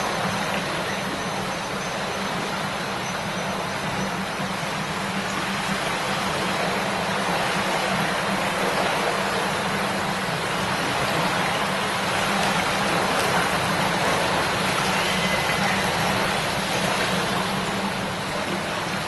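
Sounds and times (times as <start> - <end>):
river babbling: 0.0 - 19.0.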